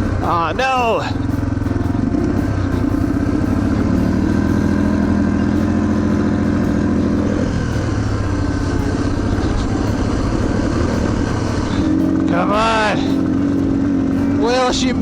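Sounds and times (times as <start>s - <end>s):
motorcycle engine running rough: 0.0s - 15.0s.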